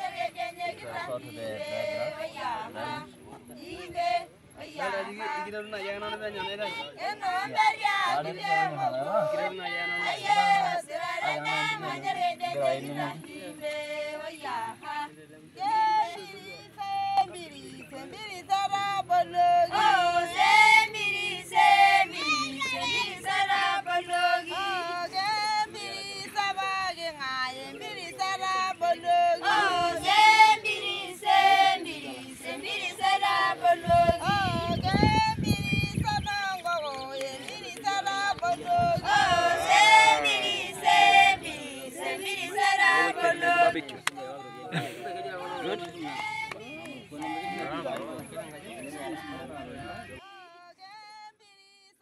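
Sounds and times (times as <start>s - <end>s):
voices singing together: 0.0s - 52.0s.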